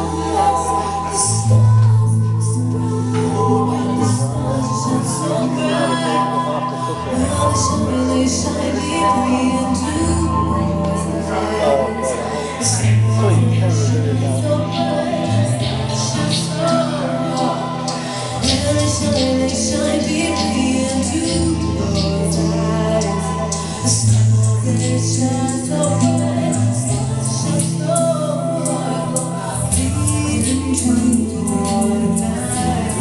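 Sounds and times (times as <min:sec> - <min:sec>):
held bass notes: 0:00.0 - 0:33.0
person singing: 0:00.0 - 0:33.0.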